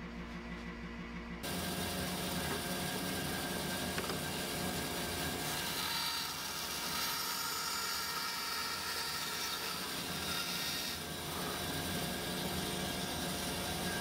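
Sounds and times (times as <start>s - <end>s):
band saw cutting plywood: 1.4s - 14.0s.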